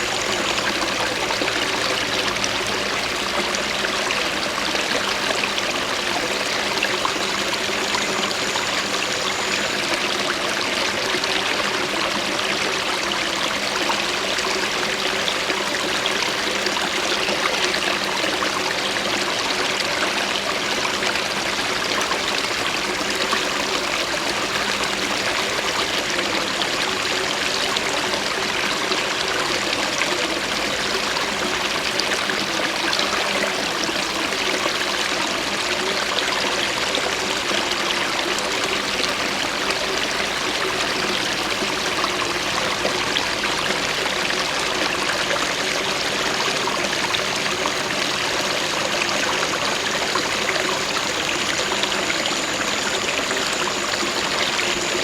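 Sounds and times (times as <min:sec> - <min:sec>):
small stream running: 0:00.0 - 0:55.0.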